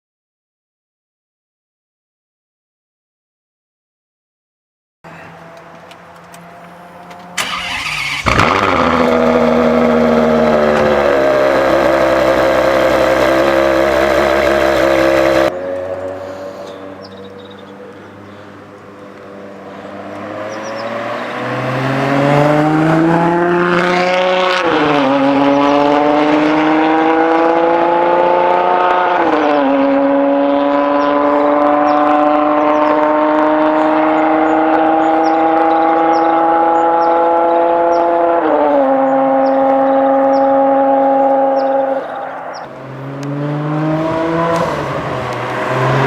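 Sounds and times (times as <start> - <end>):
car engine accelerating with gear changes: 5.1 - 46.0.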